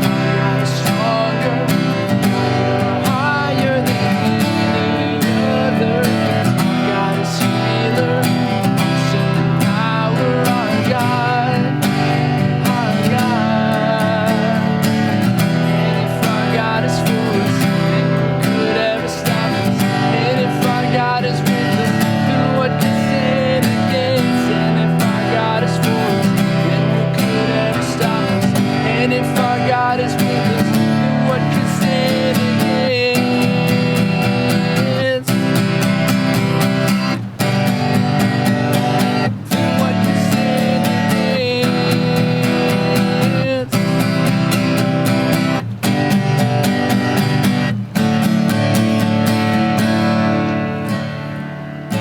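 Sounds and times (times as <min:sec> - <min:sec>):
strummed acoustic guitar: 0:00.0 - 0:52.0.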